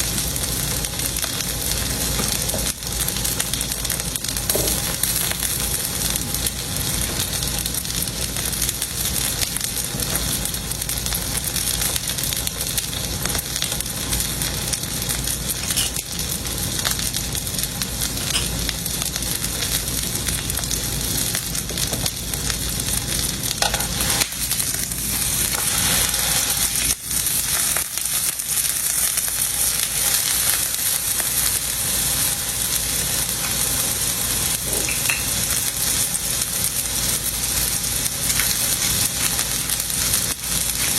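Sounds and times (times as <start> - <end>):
steak sizzling in a pan: 0.0 - 40.9.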